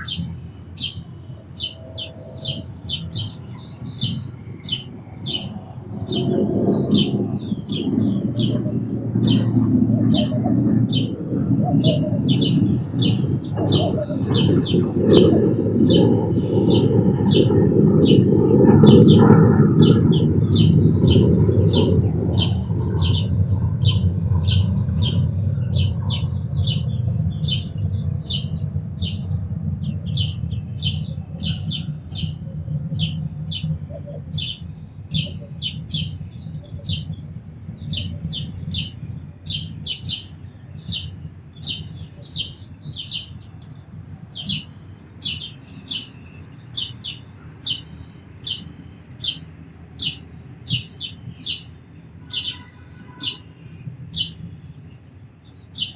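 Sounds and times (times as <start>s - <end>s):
low rumble: 0.0s - 45.6s
sparrow chirping: 0.0s - 55.9s.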